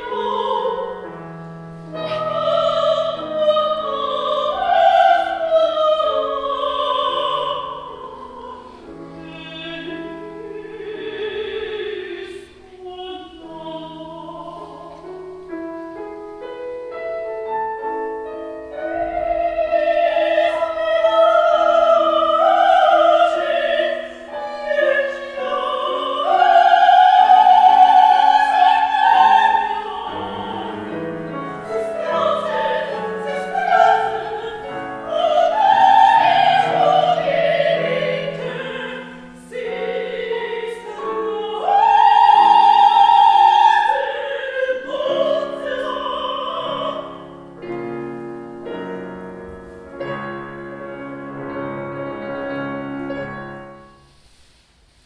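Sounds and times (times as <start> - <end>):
operatic soprano singing: 0.0 - 15.9, 17.8 - 48.0
piano accompaniment: 0.0 - 54.4.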